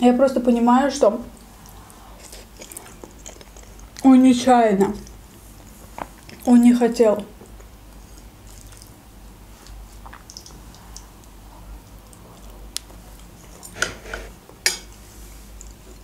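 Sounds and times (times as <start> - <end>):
soft chewing: 1.3 - 6.6, 7.2 - 16.0.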